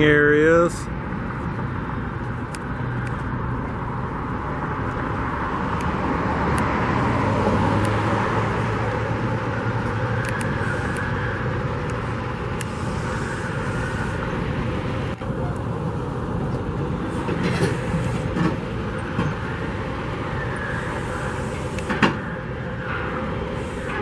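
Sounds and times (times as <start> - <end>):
road traffic rumble: 0.0 - 24.0
vehicle passing by: 0.8 - 24.0.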